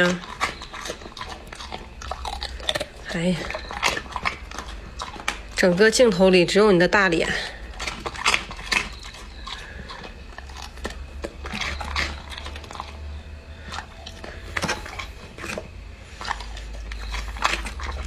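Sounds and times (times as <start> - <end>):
dog crunching rice cracker: 0.0 - 18.0.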